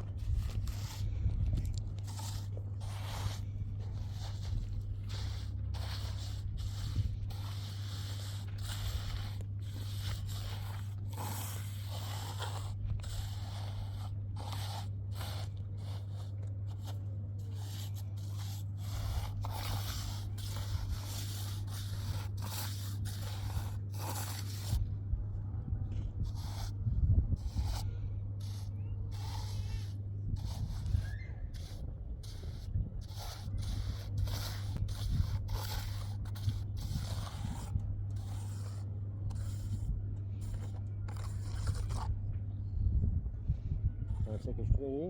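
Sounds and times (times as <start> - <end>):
scraping and crunching strokes: 0.0 - 24.9, 25.9 - 42.2
steady low hum: 0.0 - 45.0.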